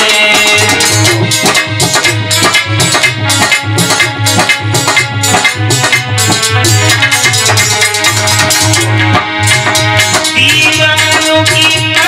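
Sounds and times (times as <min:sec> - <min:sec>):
hand drums: 0:00.0 - 0:12.0
sustained melody line: 0:00.0 - 0:12.0.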